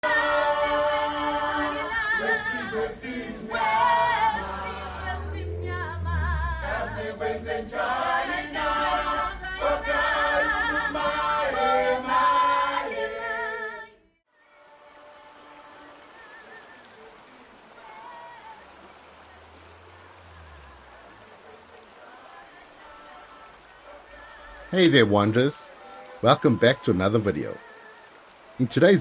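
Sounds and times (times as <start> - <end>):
choir singing with vibrato: 0.0 - 29.0.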